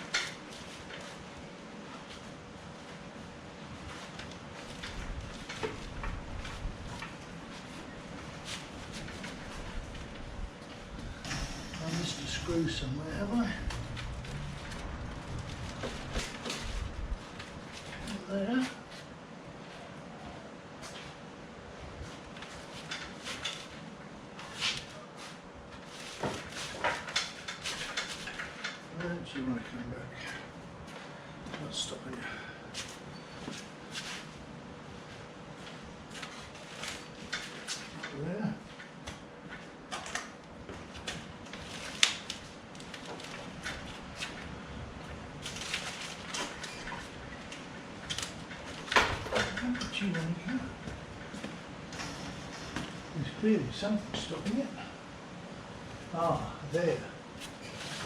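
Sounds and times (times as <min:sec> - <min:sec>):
scrapes and rustles: 0:00.0 - 0:32.1, 0:32.7 - 0:54.7, 0:57.3 - 0:58.0.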